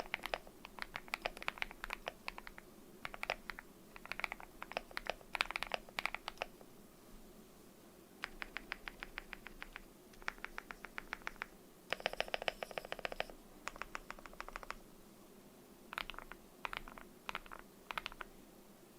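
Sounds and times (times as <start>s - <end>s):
mechanical keyboard typing: 0.0s - 6.6s, 8.2s - 14.8s, 15.9s - 18.3s.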